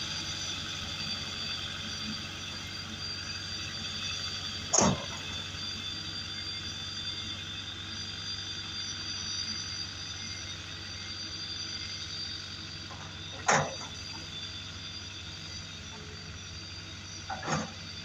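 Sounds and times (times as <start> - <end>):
road roller engine hum: 0.0 - 18.0
steady high whine: 0.0 - 18.0.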